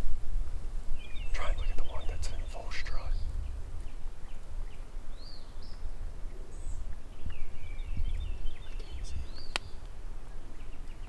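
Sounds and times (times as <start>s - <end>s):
wind rumble on microphone: 0.0s - 11.0s
small birds chirping: 0.9s - 11.0s.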